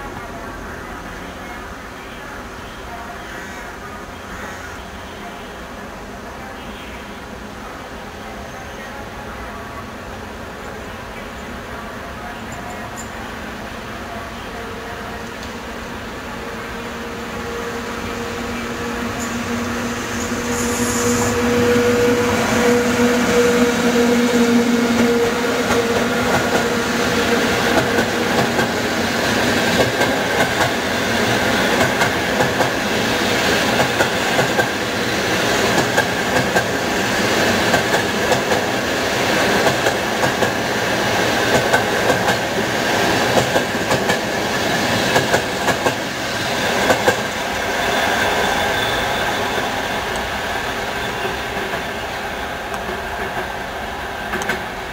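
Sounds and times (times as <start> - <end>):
train coaches rumbling: 0.0 - 54.9.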